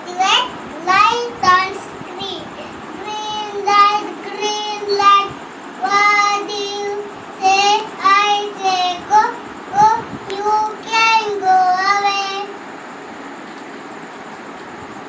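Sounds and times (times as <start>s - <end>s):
boy singing: 0.0s - 12.6s.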